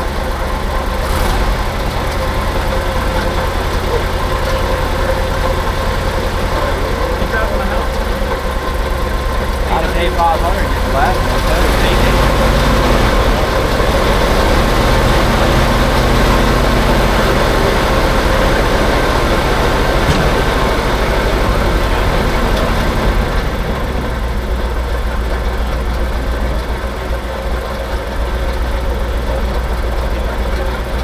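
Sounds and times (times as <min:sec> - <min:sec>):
dump truck engine idling: 0:00.0 - 0:31.0.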